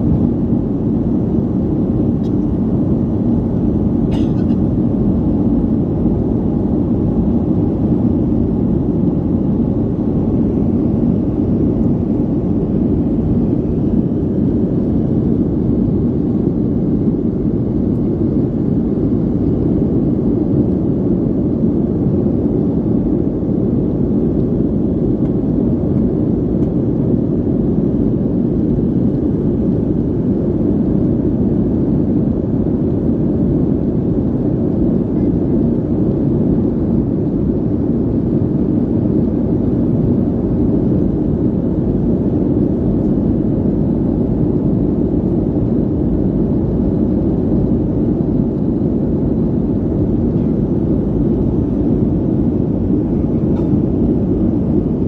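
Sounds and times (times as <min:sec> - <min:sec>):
airplane cabin engine roar: 0:00.0 - 0:55.0.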